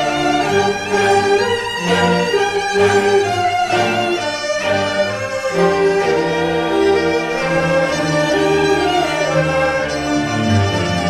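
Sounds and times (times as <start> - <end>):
bowed strings: 0.0 - 11.0
cellos holding low notes: 0.0 - 11.0.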